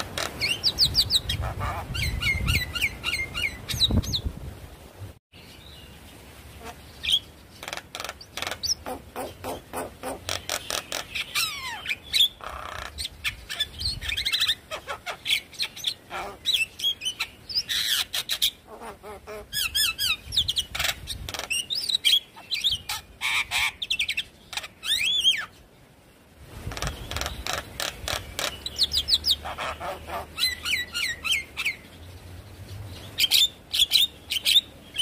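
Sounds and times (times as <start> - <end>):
myna bird singing: 0.0 - 4.3, 5.3 - 35.0.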